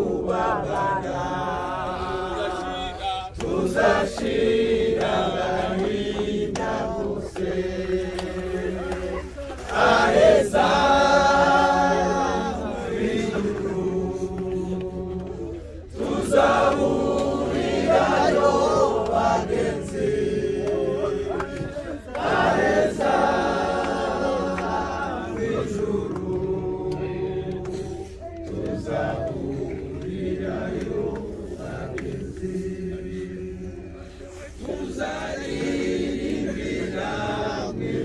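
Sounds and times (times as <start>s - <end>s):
group singing unaccompanied hymn: 0.0s - 38.0s.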